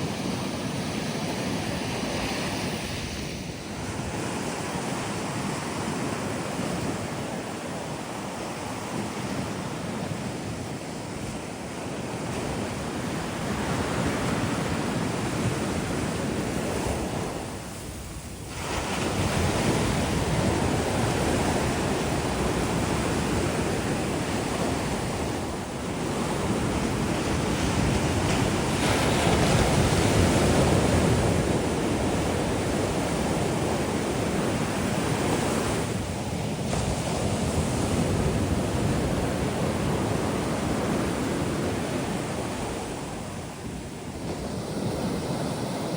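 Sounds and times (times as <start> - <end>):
sea waves breaking on beach: 0.0 - 45.9.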